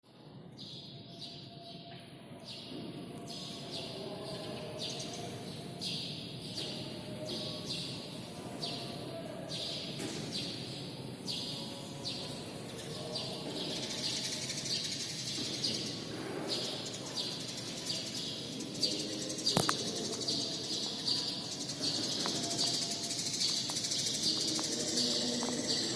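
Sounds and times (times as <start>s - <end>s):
sparrows chirping: 3.3s - 25.9s.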